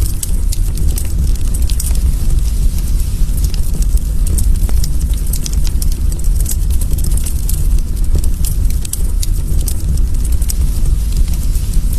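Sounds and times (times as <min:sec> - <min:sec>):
fire crackling and popping: 0:00.0 - 0:11.9
steady low rumble: 0:00.0 - 0:11.9.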